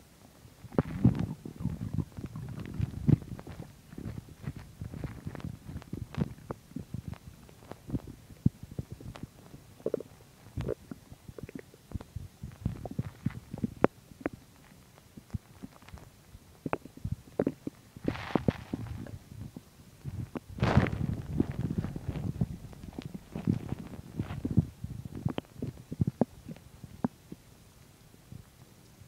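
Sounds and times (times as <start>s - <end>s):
stomach gurgling: 0.6s - 27.5s.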